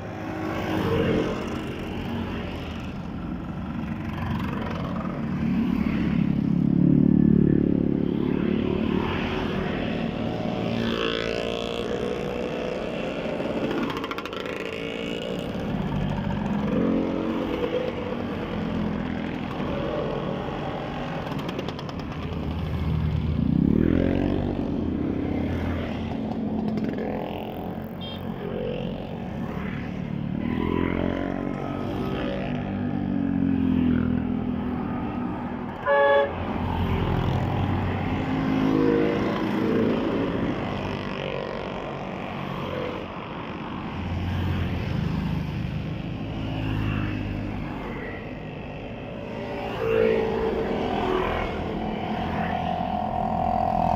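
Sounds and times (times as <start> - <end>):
cars passing by: 0.0 - 53.9
motor scooters passing by: 0.0 - 53.9.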